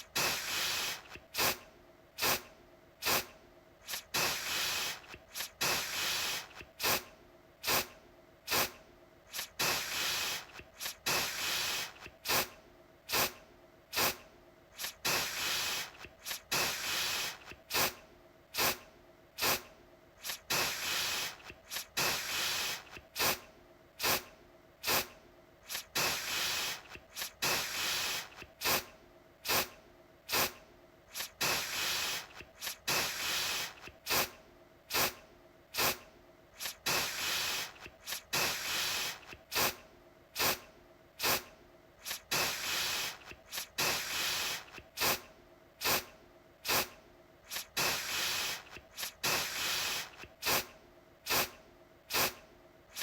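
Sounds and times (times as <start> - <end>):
aerosol can spraying: 0.0 - 1.6, 2.2 - 7.9, 8.5 - 14.2, 14.8 - 18.0, 18.6 - 18.8, 19.4 - 23.4, 24.0 - 36.0, 36.6 - 39.8, 40.4 - 40.6, 41.2 - 50.7, 51.3 - 53.0.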